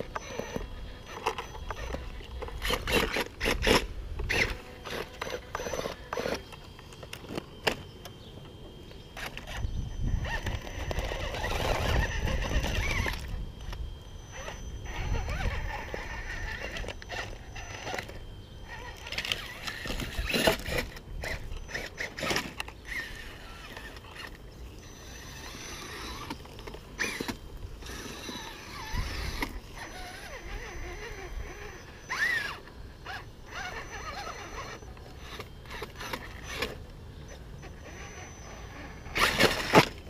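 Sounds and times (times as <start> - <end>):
rc car motor whining: 0.0 - 40.0.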